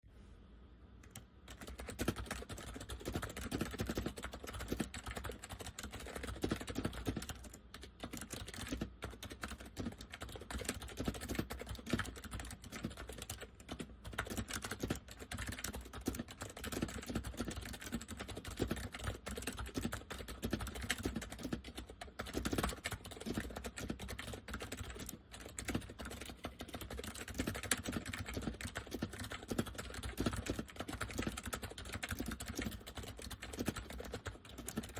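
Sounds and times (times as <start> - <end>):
fast typing on keyboard: 1.0 - 34.9.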